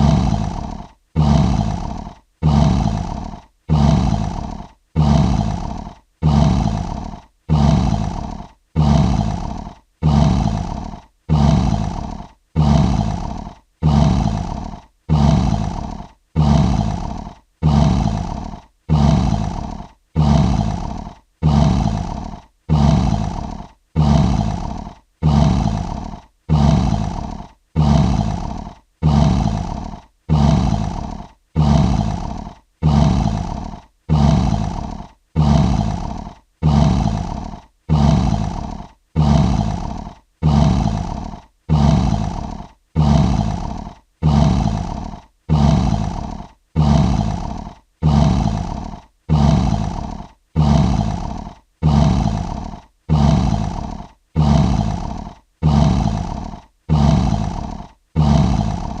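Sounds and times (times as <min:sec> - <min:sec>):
lion roar: 0:00.0 - 0:59.0.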